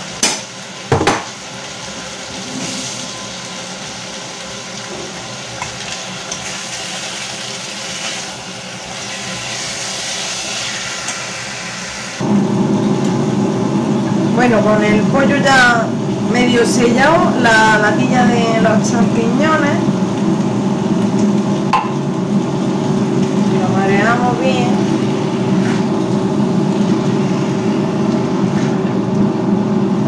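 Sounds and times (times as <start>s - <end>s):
chicken sizzling in frying pan: 0.0s - 30.0s.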